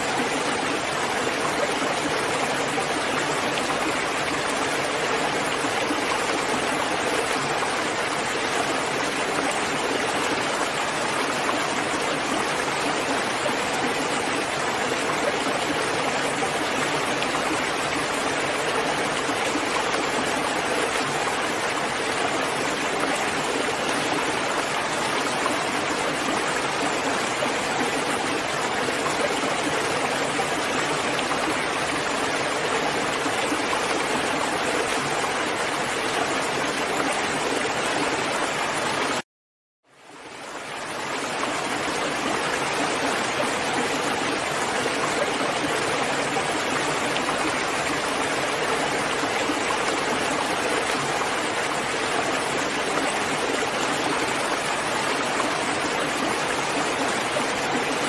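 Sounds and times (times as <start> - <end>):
steady rainfall: 0.0 - 39.2, 39.9 - 58.0.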